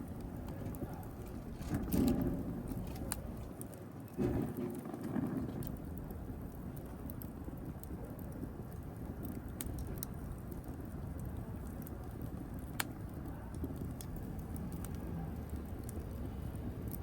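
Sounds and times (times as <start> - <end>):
fire rumbling and crackling: 0.0 - 17.0.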